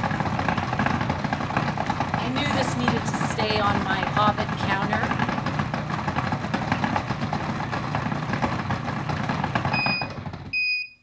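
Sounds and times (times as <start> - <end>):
food processor running: 0.0 - 10.6
food processor beeping: 0.0 - 11.0.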